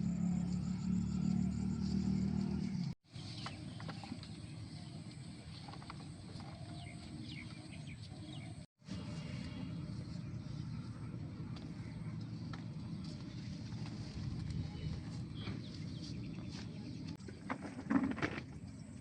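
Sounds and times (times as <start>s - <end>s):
steady low hum: 0.0s - 17.4s
birds chirping: 0.0s - 17.6s.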